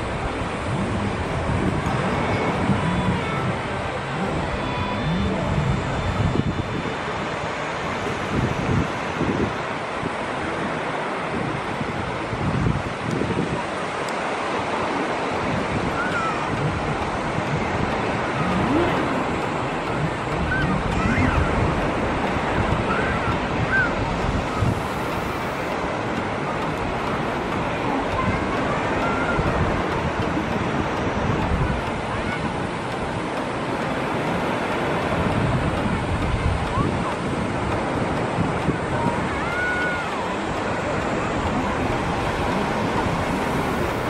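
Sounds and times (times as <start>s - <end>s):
faint voices: 0.0s - 9.6s, 13.2s - 44.0s
surf washing onto beach: 0.0s - 44.0s
wind buffeting microphone: 0.0s - 44.0s.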